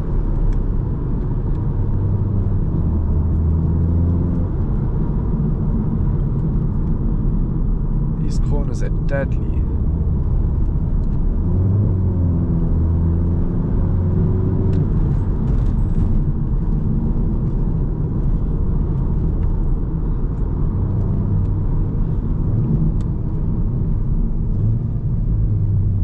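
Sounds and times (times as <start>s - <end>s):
car engine from inside cabin: 0.0s - 26.0s
road rumble: 0.0s - 26.0s.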